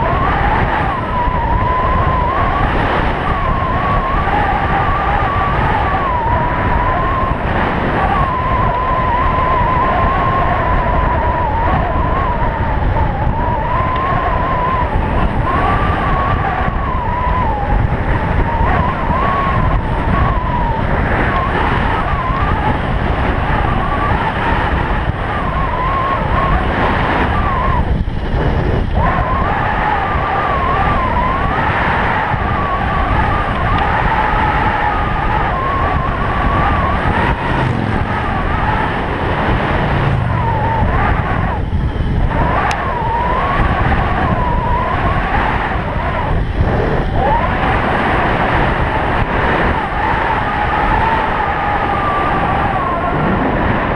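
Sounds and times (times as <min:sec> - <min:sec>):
electric bike motor whine: 0:00.0 - 0:53.9
wind buffeting microphone: 0:00.0 - 0:53.9.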